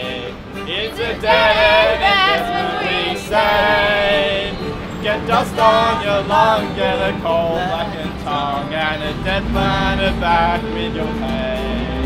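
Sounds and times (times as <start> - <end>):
group singing together: 0.0 - 12.0
violin playing: 0.0 - 12.0.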